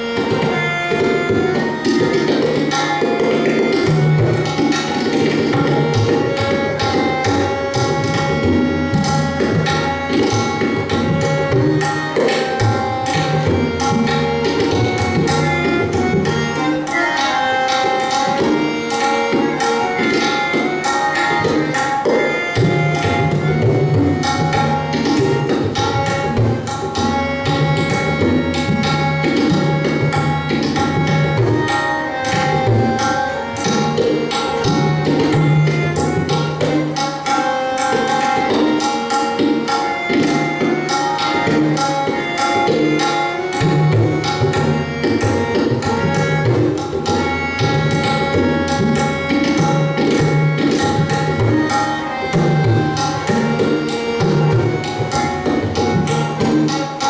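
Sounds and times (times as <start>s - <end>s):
harmonium melody: 0.0s - 57.0s
tabla drum strokes: 0.2s - 16.7s, 17.8s - 57.0s.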